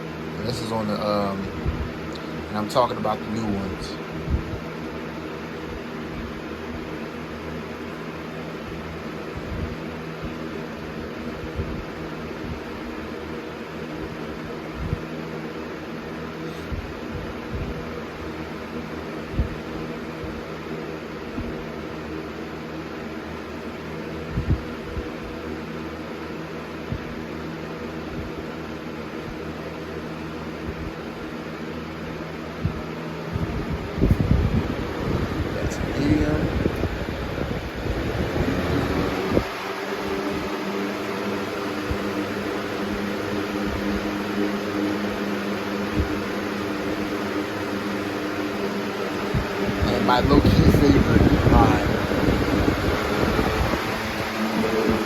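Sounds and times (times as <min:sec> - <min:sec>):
box fan running: 0:00.0 - 0:55.0.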